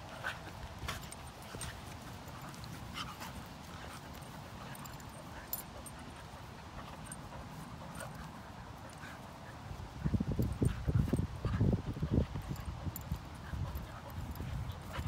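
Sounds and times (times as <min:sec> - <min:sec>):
dogs scuffling and snuffling: 0:00.0 - 0:15.0
low background noise: 0:00.0 - 0:15.0.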